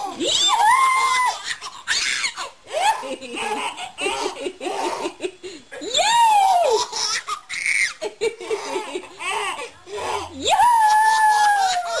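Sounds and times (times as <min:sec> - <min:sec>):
baby laughing: 0:01.0 - 0:05.3, 0:06.4 - 0:12.0.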